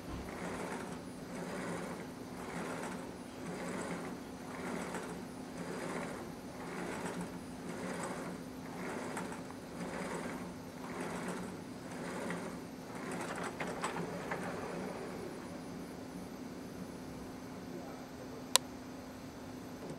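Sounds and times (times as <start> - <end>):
electric motors whirring: 0.0 - 17.4.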